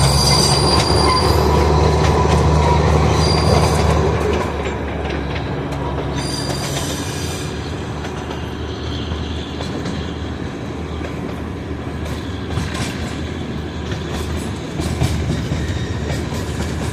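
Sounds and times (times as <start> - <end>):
train wheel squeal: 0.0 - 16.9
train wheels rumbling: 0.0 - 16.9.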